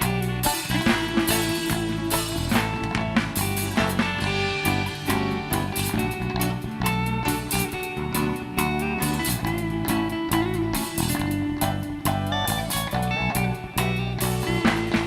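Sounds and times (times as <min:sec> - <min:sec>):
drum beat: 0:00.0 - 0:08.0, 0:10.4 - 0:15.0
bass: 0:00.0 - 0:15.0
guitar: 0:00.0 - 0:15.0
live band music: 0:00.0 - 0:15.0.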